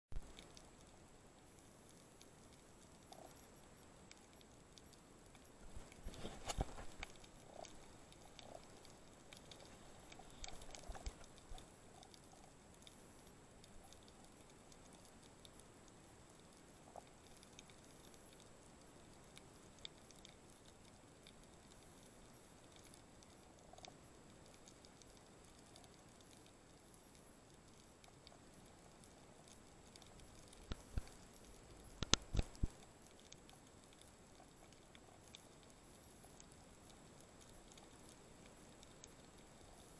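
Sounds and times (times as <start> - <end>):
soft crackles and ticks: 0.1 - 39.9.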